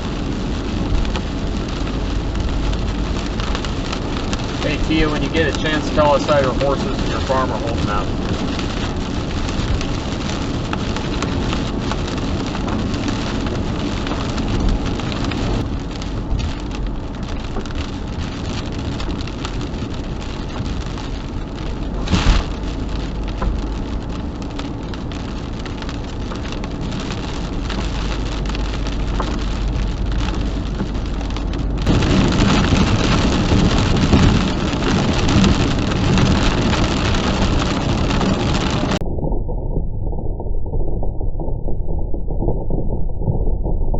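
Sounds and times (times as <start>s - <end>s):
heavy rain pattering: 0.0s - 39.0s.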